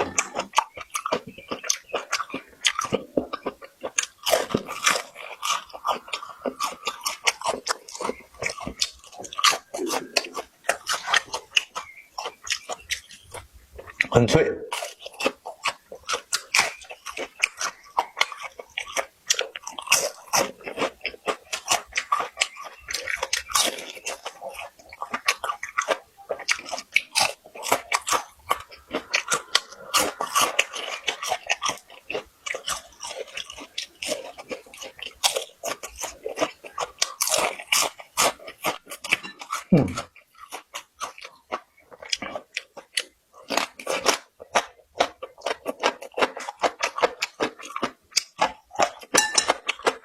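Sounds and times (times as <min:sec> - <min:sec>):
person chewing crispy food: 0:00.0 - 0:50.0.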